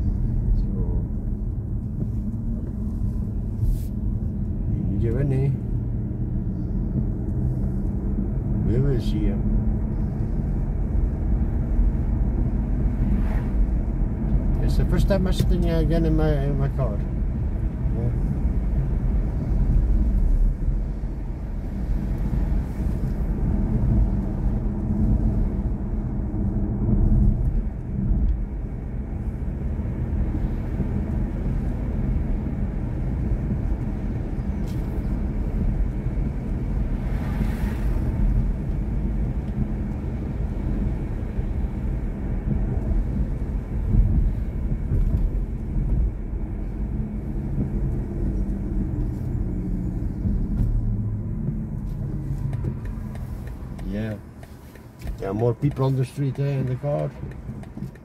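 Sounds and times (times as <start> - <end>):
road and tyre rumble in car cabin: 0.0 - 58.0.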